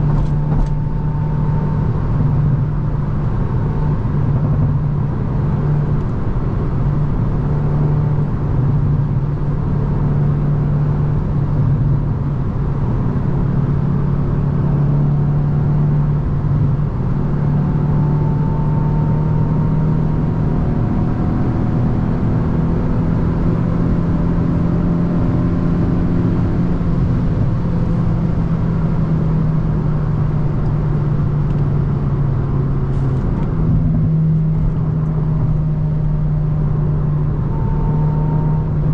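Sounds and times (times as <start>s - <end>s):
car engine drone: 0.0s - 38.9s
road noise: 0.0s - 38.9s.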